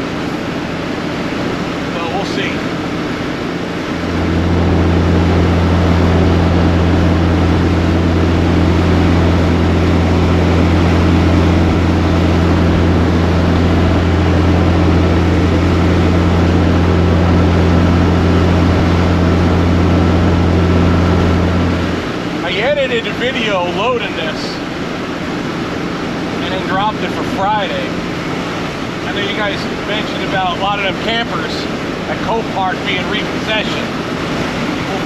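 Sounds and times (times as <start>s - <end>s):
road noise: 0.0s - 35.0s
truck engine drone: 0.0s - 35.0s.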